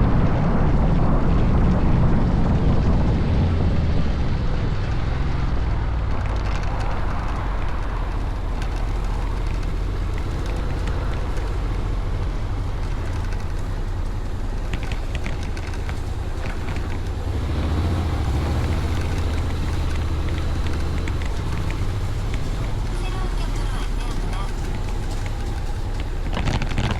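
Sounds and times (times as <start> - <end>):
wind rush: 0.0 - 26.9
scooter engine rumble: 1.1 - 26.9.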